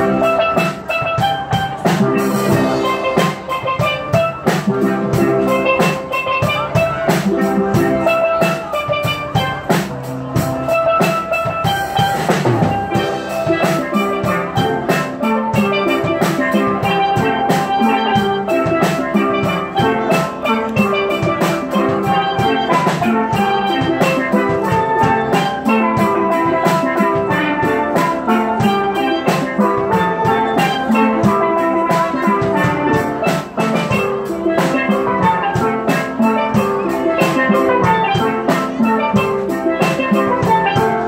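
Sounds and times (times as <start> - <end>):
drum kit beat: 0.0 - 41.0
steel pans playing melody: 0.0 - 41.0.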